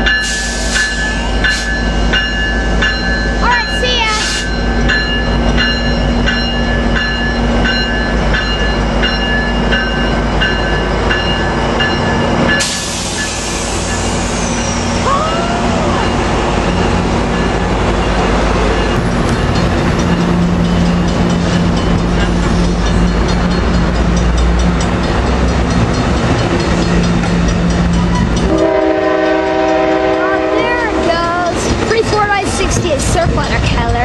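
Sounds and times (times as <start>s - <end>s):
railroad crossing bell dinging: 0.0s - 34.0s
train rumbling: 0.0s - 34.0s.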